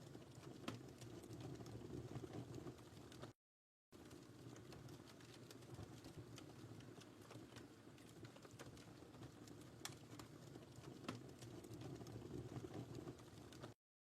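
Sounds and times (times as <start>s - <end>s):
wood fire crackling: 0.0s - 13.8s.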